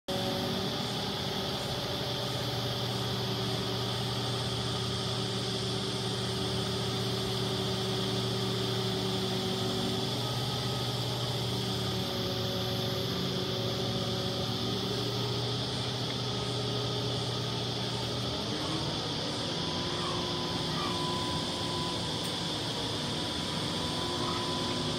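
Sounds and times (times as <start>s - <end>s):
crane engine running: 0.1s - 24.9s
thin high whine: 0.1s - 24.9s.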